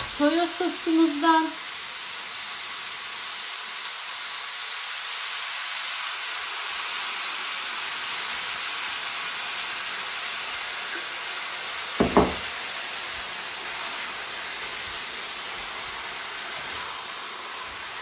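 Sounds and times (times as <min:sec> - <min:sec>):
noodles sizzling in oil: 0:00.0 - 0:18.0.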